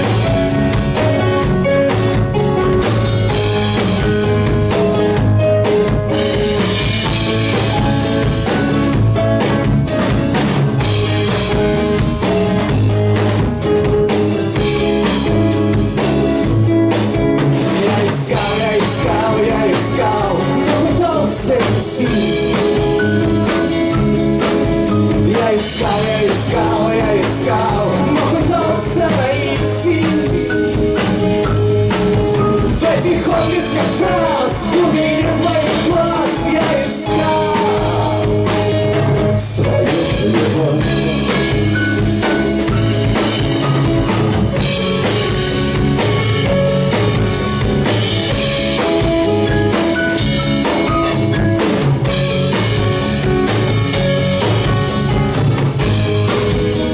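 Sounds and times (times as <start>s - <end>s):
drum rimshots: 0.0s - 56.9s
live rock band playing: 0.0s - 56.9s.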